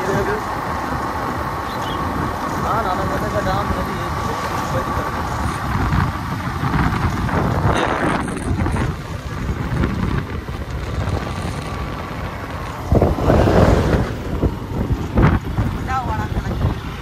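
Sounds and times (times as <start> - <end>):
motorcycle engine: 0.0 - 17.0
wind buffeting microphone: 0.0 - 17.0.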